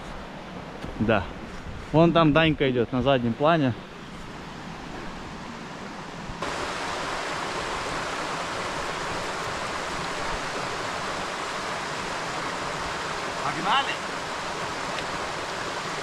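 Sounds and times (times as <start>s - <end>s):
river rushing: 2.7s - 16.0s.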